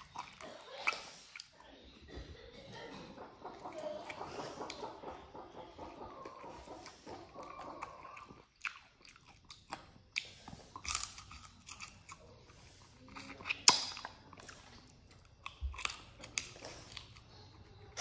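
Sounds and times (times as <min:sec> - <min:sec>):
chewing and crunching bones: 0:00.0 - 0:18.0.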